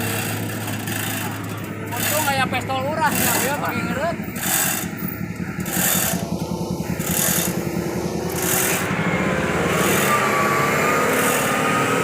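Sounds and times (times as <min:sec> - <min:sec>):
tow truck engine under load: 0:00.0 - 0:12.0
truck scraping along ground: 0:00.0 - 0:12.0
faint whine: 0:00.1 - 0:11.1.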